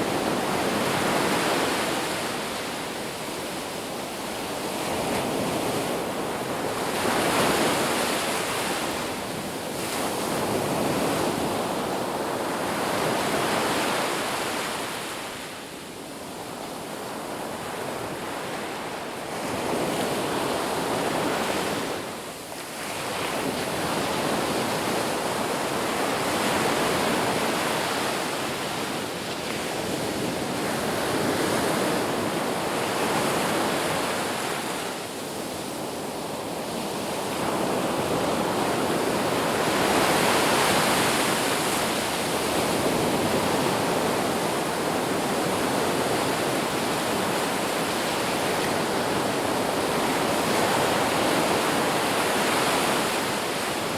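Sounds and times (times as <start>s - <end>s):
ocean surf washing onto beach: 0.0s - 53.9s.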